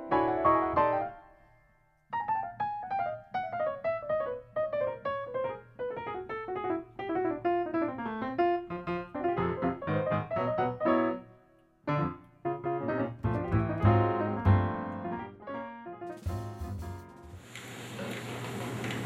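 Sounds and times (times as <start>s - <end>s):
solo piano: 0.0s - 17.5s.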